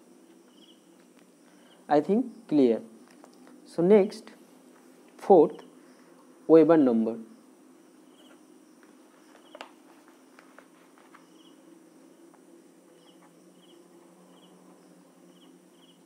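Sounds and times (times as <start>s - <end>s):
insect chirps: 0.0s - 16.0s
low steady hum: 0.0s - 16.0s.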